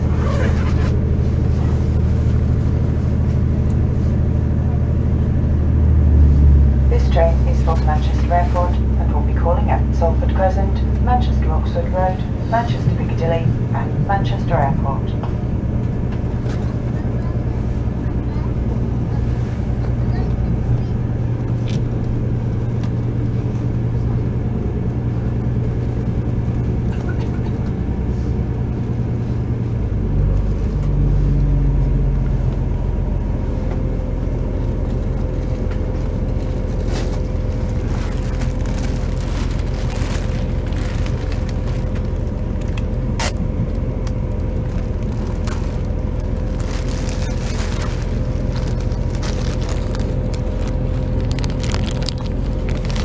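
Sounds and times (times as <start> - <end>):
train engine rumbling: 0.0 - 53.0.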